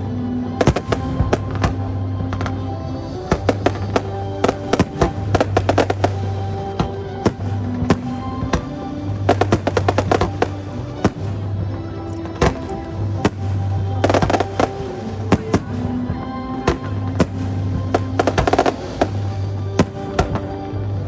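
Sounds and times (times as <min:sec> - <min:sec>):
fireworks crackling pops: 0:00.0 - 0:21.0
music playing: 0:00.0 - 0:21.0
fireworks bangs: 0:00.6 - 0:02.6, 0:03.2 - 0:11.6, 0:12.2 - 0:20.7.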